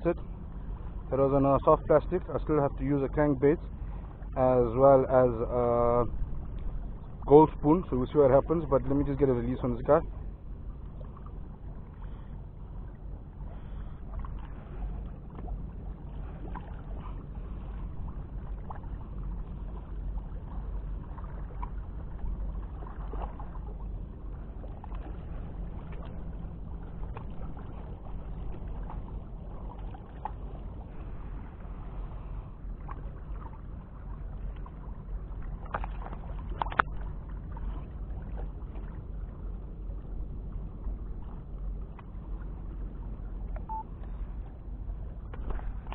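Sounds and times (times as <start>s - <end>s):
harbour low rumble: 0.0s - 45.9s.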